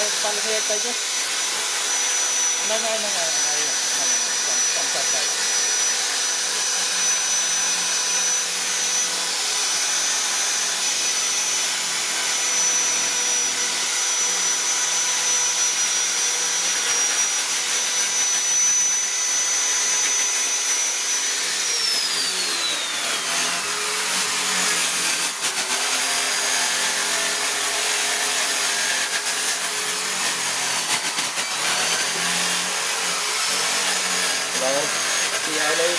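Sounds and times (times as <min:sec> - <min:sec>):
die grinder whine: 0:00.0 - 0:35.9
grinding bit on wood: 0:00.0 - 0:35.9.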